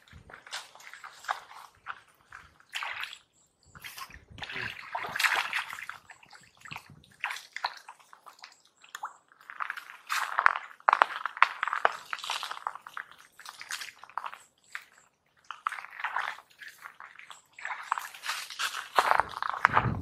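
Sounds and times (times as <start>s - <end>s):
muddy water sloshing and splashing: 0.0s - 20.0s.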